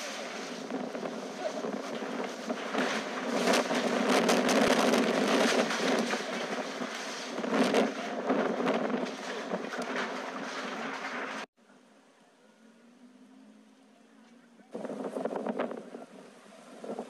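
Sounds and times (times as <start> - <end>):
strong wind gusting: 0.0 - 11.5, 14.7 - 17.0.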